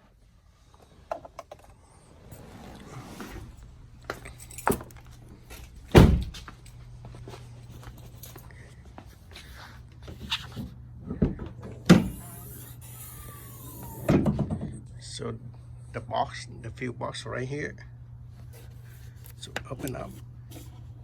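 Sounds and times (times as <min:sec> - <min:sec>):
steady low hum: 0:01.4 - 0:21.0.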